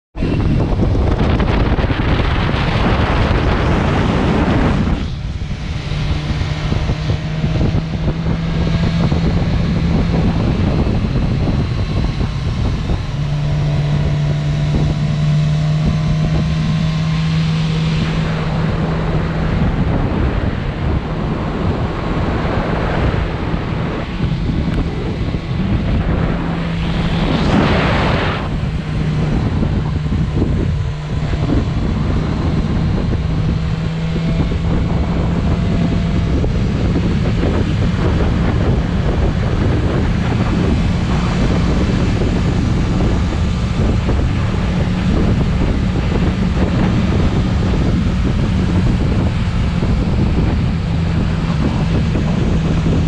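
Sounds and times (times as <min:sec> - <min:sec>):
motorcycle engine drone: 0:00.0 - 0:53.0
wind rushing over microphone: 0:00.1 - 0:53.0.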